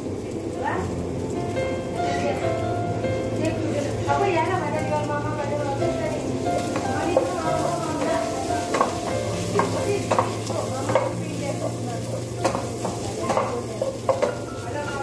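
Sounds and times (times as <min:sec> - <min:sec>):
leafy greens rustling: 0:00.3 - 0:15.0.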